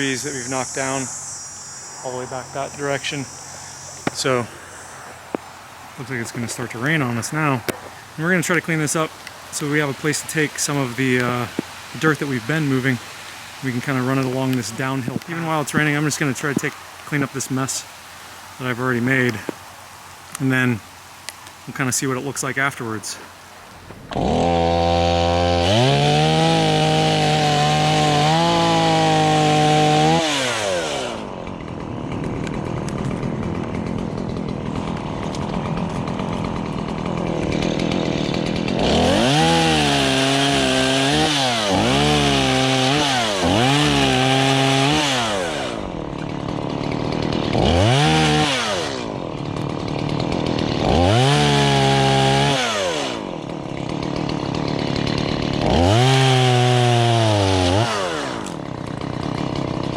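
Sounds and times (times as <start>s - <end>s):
chainsaw engine revving: 0.0s - 17.9s, 24.0s - 59.9s.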